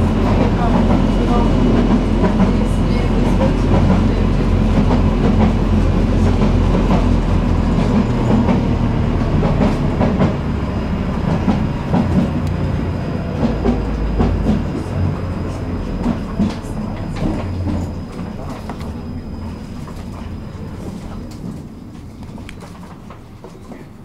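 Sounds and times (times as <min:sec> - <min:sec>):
tram wheels rumbling on rails: 0:00.0 - 0:24.0.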